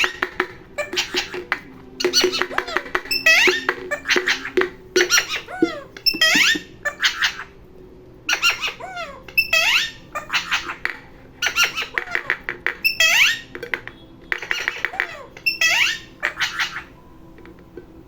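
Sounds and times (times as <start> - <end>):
parrot calling high-pitched: 0.0 - 7.6, 8.2 - 17.1.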